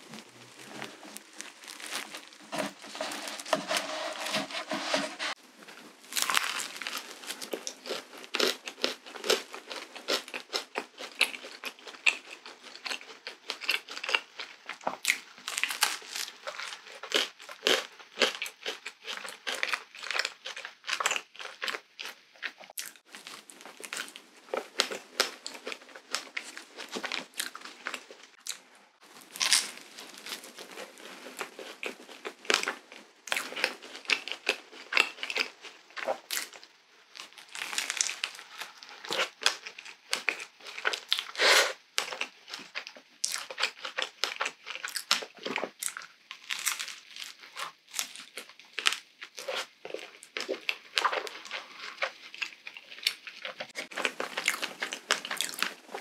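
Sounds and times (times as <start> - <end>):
chewing and biting waffles: 0.0 - 5.0, 5.9 - 56.0.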